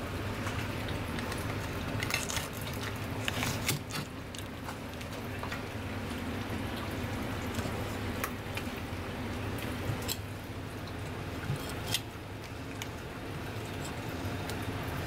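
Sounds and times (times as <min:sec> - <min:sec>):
steady low hum: 0:00.0 - 0:15.0
wet flesh squishing: 0:00.2 - 0:15.0.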